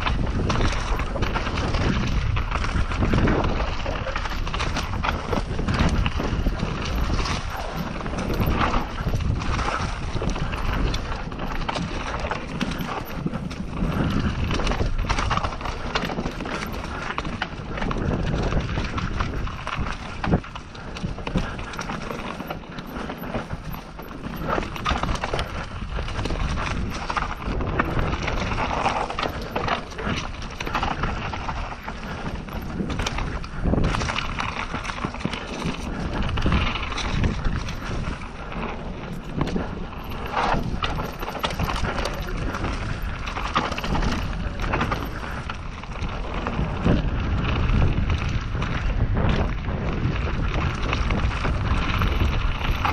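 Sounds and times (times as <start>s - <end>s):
bike rattling and clattering: 0.0s - 52.9s
bike tyres rolling over dirt: 0.0s - 52.9s.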